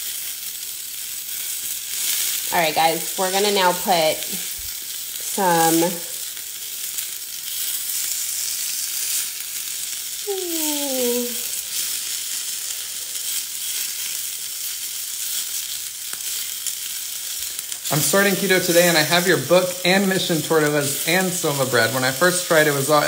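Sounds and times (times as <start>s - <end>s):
meatballs sizzling in oil: 0.0s - 23.0s
tongs turning food in pan: 0.0s - 23.0s.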